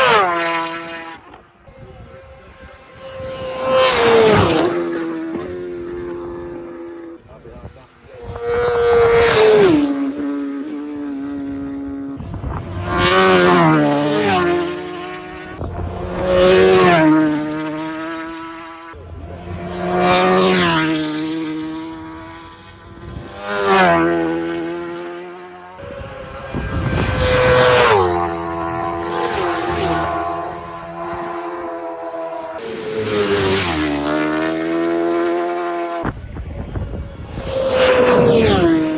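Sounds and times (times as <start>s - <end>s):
motorbikes racing past: 0.0s - 38.9s.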